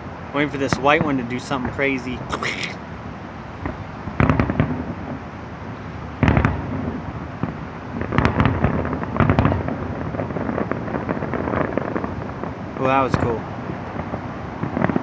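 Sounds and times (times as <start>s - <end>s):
fireworks crackling: 0.0s - 15.0s
fireworks bangs: 0.4s - 2.8s, 3.6s - 5.3s, 6.1s - 15.0s.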